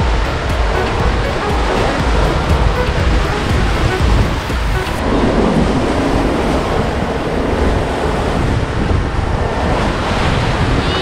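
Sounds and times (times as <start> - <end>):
choppy waves along a hull: 0.0 - 11.0
wind buffeting microphone: 0.0 - 11.0.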